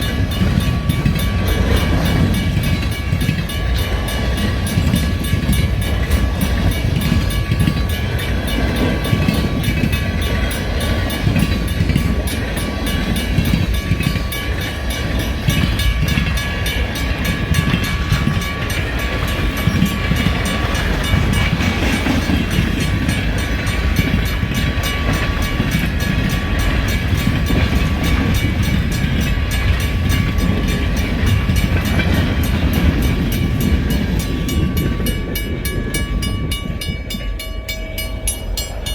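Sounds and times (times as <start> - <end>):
crossing signal bell ringing: 0.0 - 38.9
train wheels rumbling on rails: 0.0 - 38.9.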